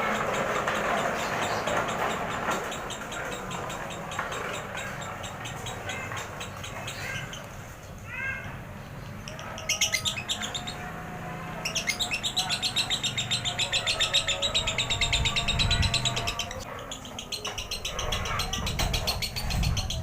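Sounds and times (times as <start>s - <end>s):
lovebird chattering song: 0.0s - 7.5s, 9.2s - 10.9s, 11.6s - 20.0s.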